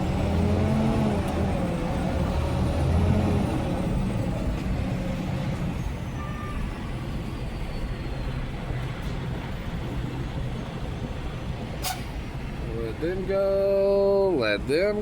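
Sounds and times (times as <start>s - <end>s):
diesel truck engine rumble: 0.0s - 15.0s.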